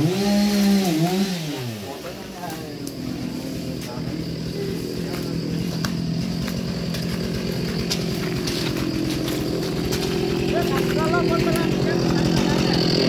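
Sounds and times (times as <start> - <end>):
chainsaw running: 0.0 - 13.0.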